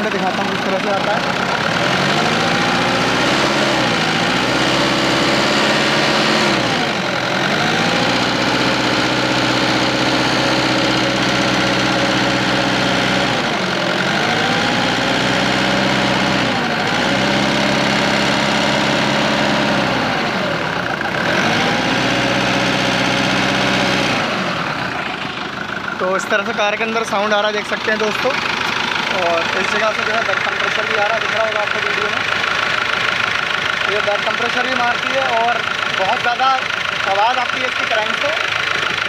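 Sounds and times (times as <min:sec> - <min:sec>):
diesel engine knocking: 0:00.0 - 0:39.0.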